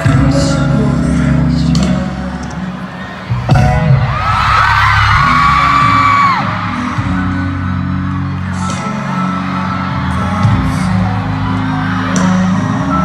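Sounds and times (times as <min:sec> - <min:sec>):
bass-heavy pop music over pa: 0:00.0 - 0:13.0
fans whooping and screaming: 0:02.2 - 0:13.0.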